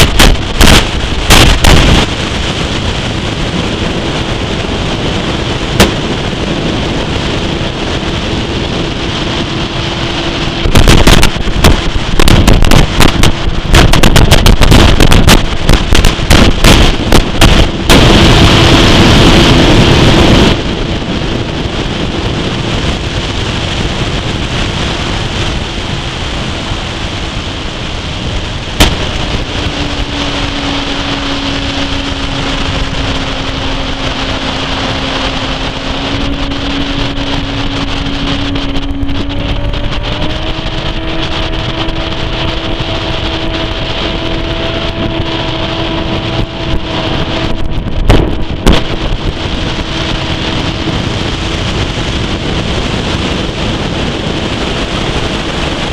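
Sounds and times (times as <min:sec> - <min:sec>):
outboard motor running: 0:00.0 - 0:55.9
water rushing past hull: 0:00.0 - 0:55.9
wind buffeting microphone: 0:00.0 - 0:55.9.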